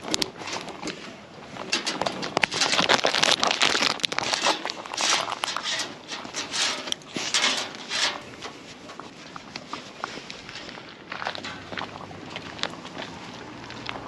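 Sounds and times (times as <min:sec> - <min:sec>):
scratchy rustling and scuffling: 0:00.0 - 0:14.0.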